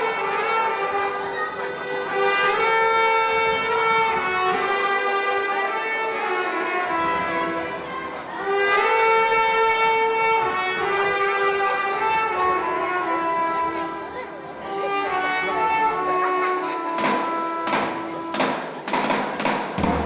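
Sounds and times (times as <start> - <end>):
accordion accompaniment: 0.0 - 18.8.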